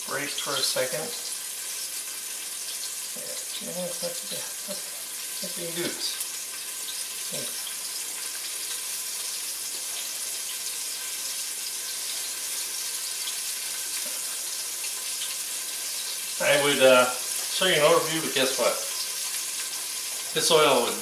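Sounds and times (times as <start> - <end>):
chicken frying in hot oil: 0.0 - 21.0.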